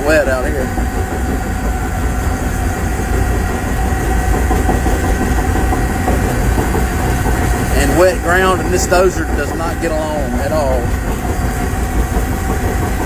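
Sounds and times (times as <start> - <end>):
bulldozer diesel engine rumbling: 0.0 - 13.0.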